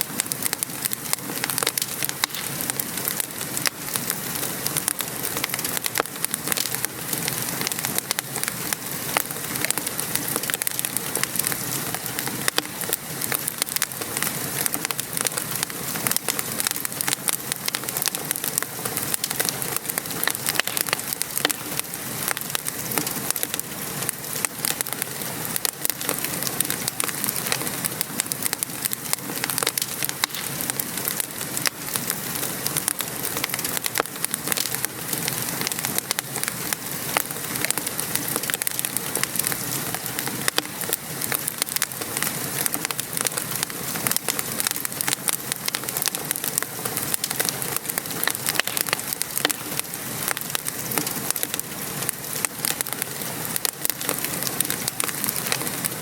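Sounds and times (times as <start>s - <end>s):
fireplace fire crackling: 0.0s - 56.0s
steady rain falling: 0.0s - 56.0s.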